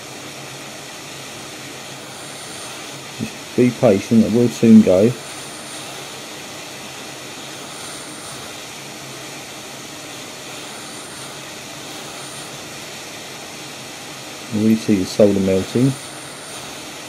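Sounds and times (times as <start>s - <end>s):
hot air blower hissing: 0.0s - 17.0s.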